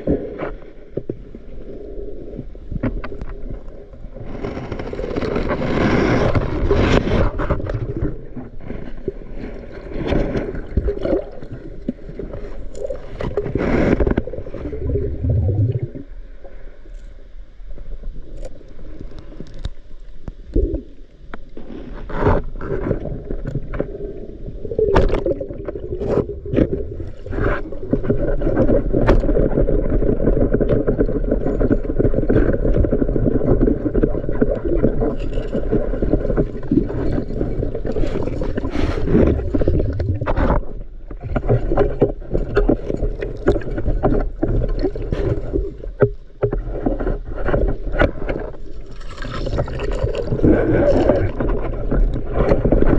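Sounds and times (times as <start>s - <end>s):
water churning and gurgling: 0.0s - 52.9s.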